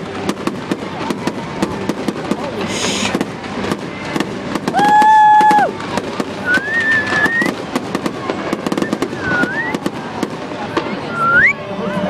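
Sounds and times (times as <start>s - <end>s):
fireworks crackling and popping: 0.0s - 11.5s
fireworks whistling: 0.1s - 11.6s.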